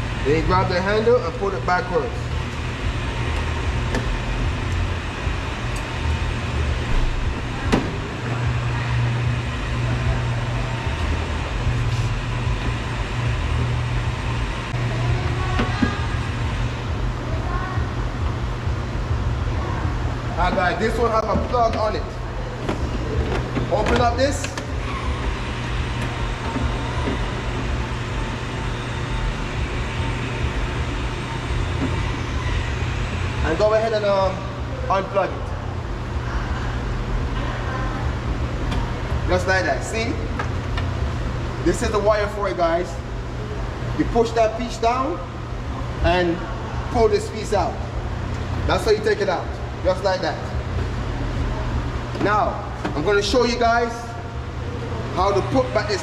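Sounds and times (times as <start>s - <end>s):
vehicle rumbling: 0.0s - 56.0s.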